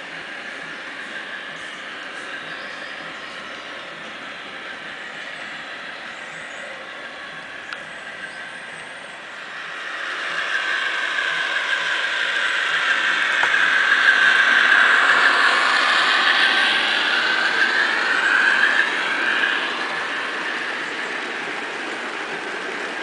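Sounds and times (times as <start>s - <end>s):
model train motor whine: 0.0s - 23.0s
wheels rattling on rails: 0.0s - 23.0s.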